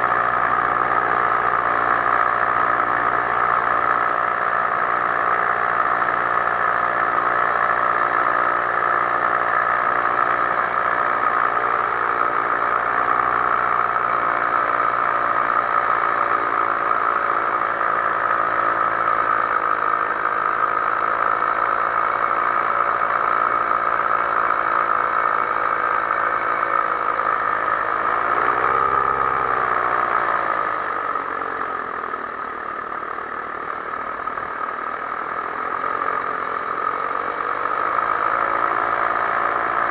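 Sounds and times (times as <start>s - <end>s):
paraglider engine and propeller: 0.0s - 39.9s.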